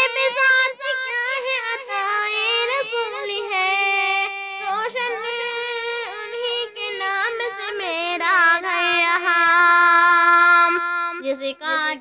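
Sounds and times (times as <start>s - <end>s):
young female voice singing: 0.0s - 12.0s.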